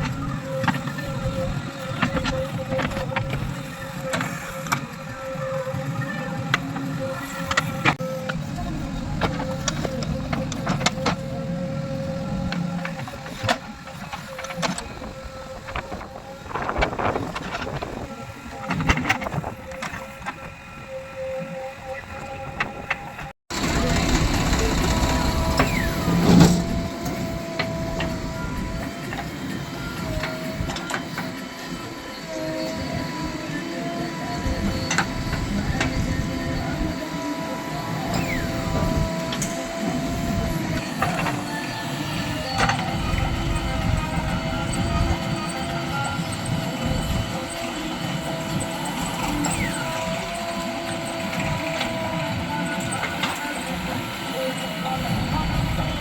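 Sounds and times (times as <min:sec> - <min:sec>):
heavy machinery engine running: 0:00.0 - 0:20.8, 0:22.1 - 0:56.0
falling whine: 0:00.0 - 0:56.0.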